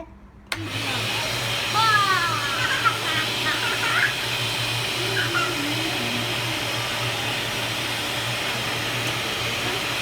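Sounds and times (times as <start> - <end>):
vacuum cleaner running: 0.5 - 10.0.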